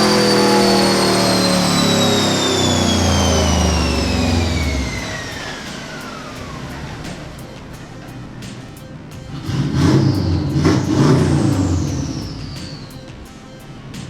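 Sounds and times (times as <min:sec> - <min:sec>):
car engine on dyno: 0:00.0 - 0:08.4, 0:09.3 - 0:13.0
high whine falling in pitch: 0:00.0 - 0:14.0.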